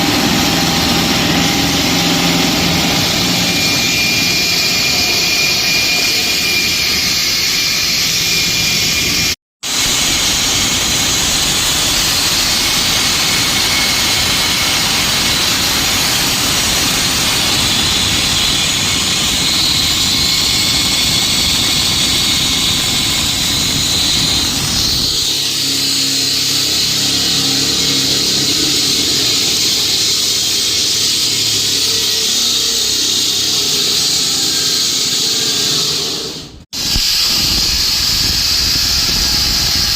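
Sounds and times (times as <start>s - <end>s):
concrete cutter whining and grinding: 0.0s - 39.9s.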